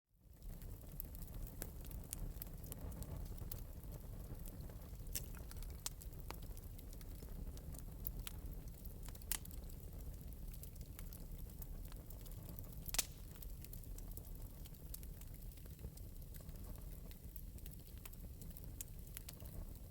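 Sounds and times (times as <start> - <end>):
wood fire crackling: 0.2 - 19.9
fire pop: 0.4 - 19.9.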